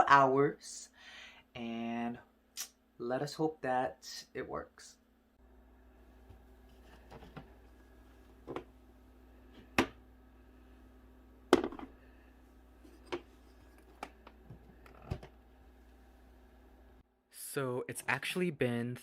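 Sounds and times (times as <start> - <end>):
faint steady low hum: 0.0 - 17.6.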